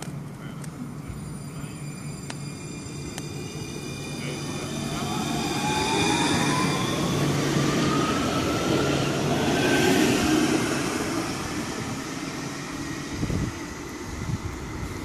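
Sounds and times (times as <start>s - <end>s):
tram motor whine rising: 1.0s - 15.0s.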